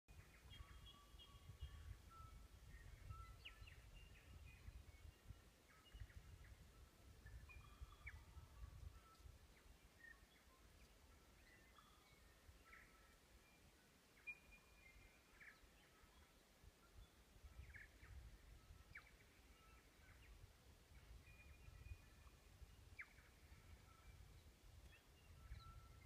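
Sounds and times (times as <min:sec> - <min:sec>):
birds whistling and chirping: 0:00.1 - 0:13.6, 0:14.2 - 0:26.0.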